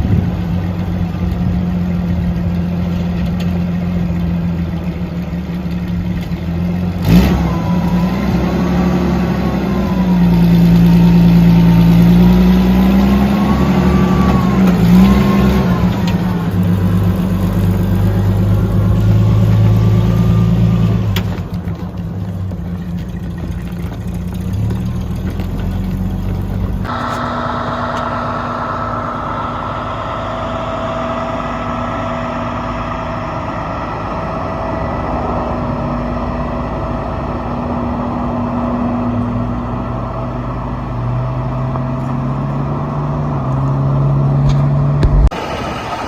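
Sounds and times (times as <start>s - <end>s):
vehicle engine running: 0.0s - 45.4s.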